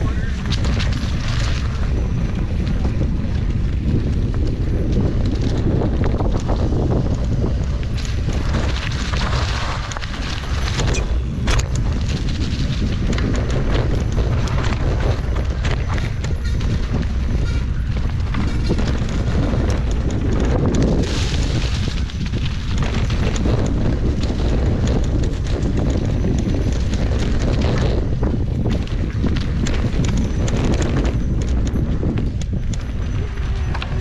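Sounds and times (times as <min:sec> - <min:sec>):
bike clicks and rattles: 0:00.0 - 0:34.0
wind rumble on microphone: 0:00.0 - 0:34.0.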